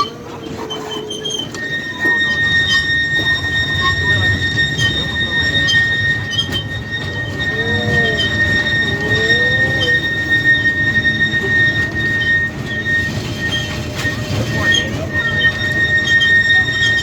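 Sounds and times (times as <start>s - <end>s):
rumble of moving train cars: 0.0s - 17.0s
train wheels squealing on rails: 0.0s - 17.0s.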